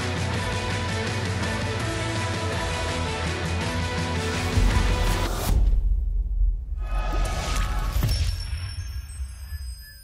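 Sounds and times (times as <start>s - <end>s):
background music: 0.0s - 8.2s.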